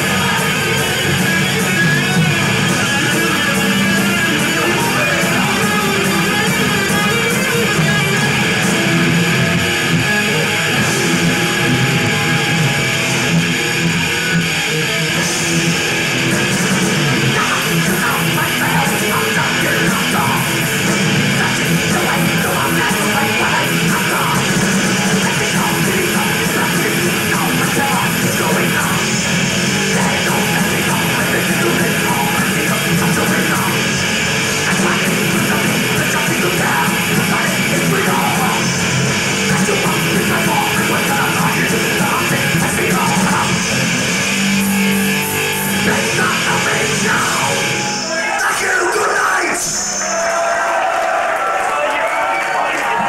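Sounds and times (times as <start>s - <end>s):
heavy metal band playing: 0.0s - 53.0s.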